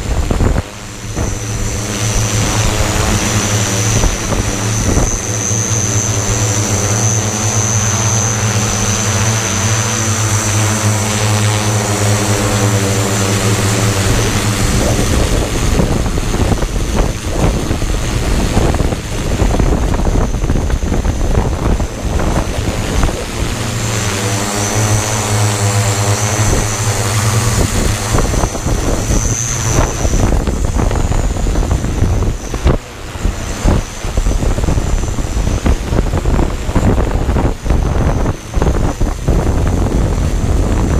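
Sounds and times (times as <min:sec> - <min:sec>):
drone motors humming: 0:00.0 - 0:40.9
wind buffeting microphone: 0:00.0 - 0:40.9.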